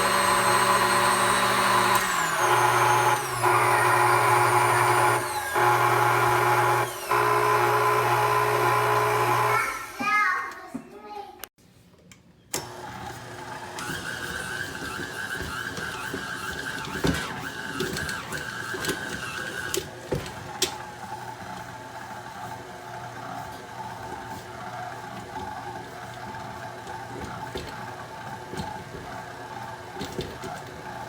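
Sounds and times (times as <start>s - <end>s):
stand mixer motor whining: 0.0s - 10.0s, 12.6s - 31.0s.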